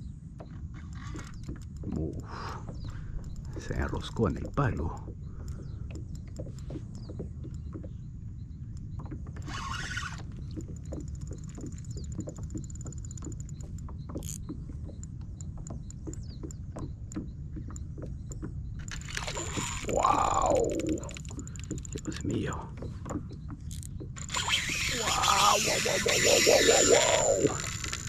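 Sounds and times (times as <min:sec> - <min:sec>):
fishing tackle clicks and ticks: 0:00.8 - 0:07.8, 0:08.7 - 0:28.0.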